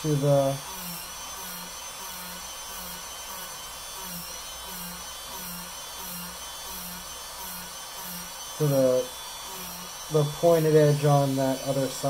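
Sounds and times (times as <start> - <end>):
rotary tool whining: 0.0 - 12.0.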